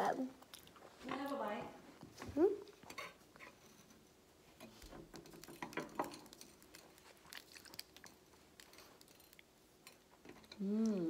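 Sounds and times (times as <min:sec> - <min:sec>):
soft chewing: 0:00.3 - 0:01.4, 0:02.1 - 0:11.0.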